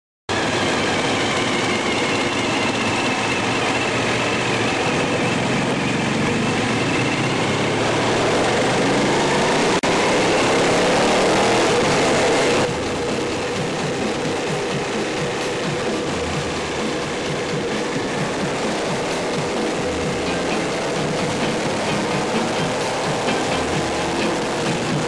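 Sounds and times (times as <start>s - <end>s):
motorcycle engine running hard: 0.3s - 25.0s.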